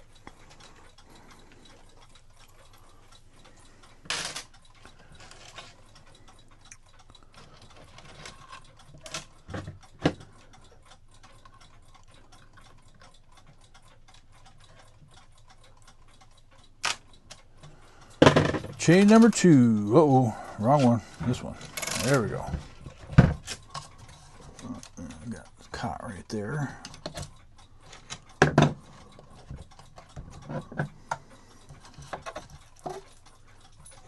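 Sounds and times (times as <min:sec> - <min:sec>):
clock ticking: 0:00.0 - 0:34.0
metallic clicks of clock parts: 0:00.0 - 0:34.0.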